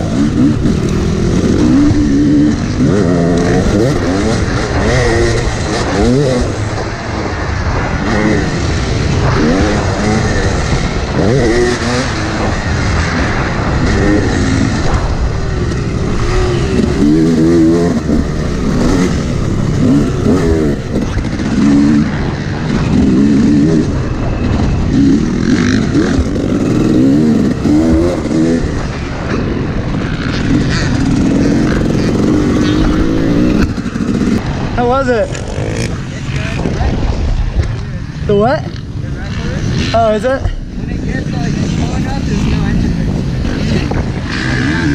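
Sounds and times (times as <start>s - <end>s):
dirt bike engine revving: 0.0s - 37.1s, 38.1s - 44.9s
wind rushing: 0.0s - 44.9s.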